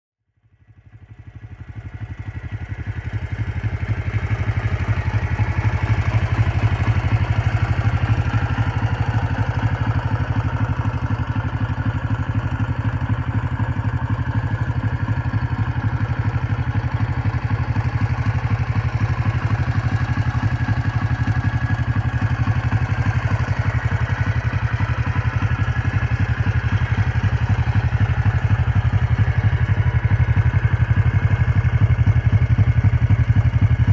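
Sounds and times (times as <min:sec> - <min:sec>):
motorcycle engine idling: 0:00.3 - 0:33.9.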